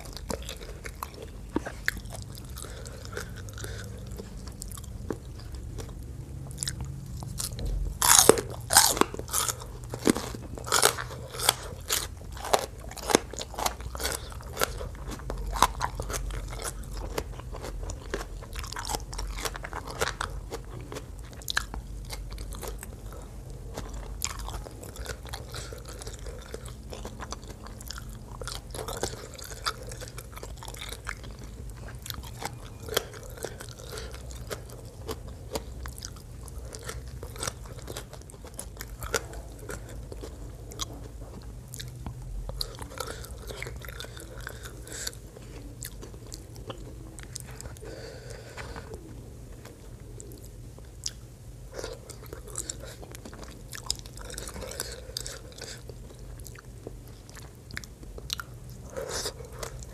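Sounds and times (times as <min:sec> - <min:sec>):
crisp chewing crunches: 0:00.0 - 0:59.9.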